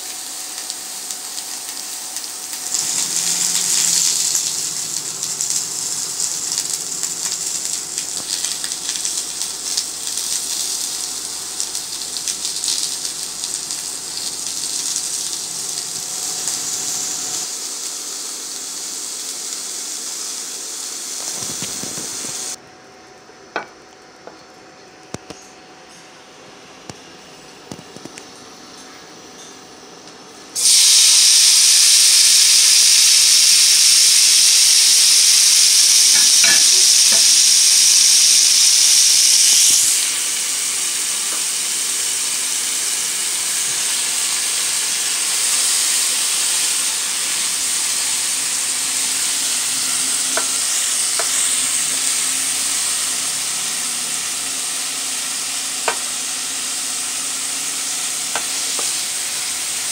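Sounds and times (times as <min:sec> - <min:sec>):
shrimp sizzling in hot oil: 0:00.0 - 0:22.6, 0:30.6 - 0:59.9.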